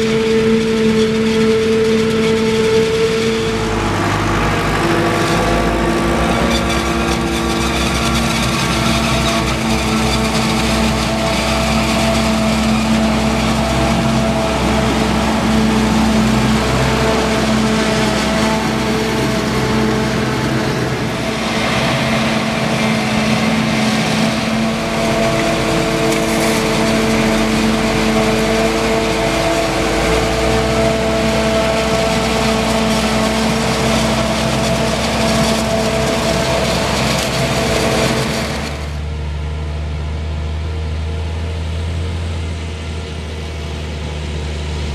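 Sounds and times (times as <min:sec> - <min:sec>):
forage harvester and tractor running: 0:00.0 - 0:44.9
tractor engine hauling: 0:00.0 - 0:44.9.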